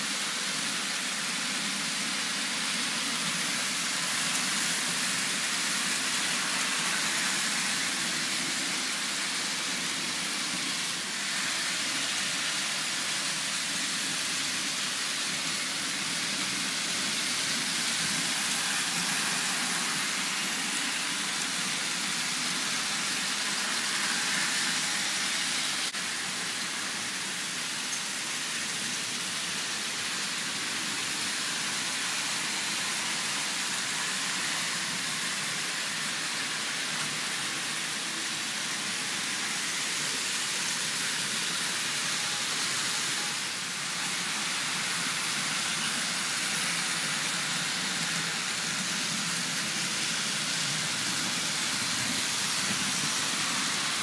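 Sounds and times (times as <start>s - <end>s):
model train motors whirring: 0.0s - 54.0s.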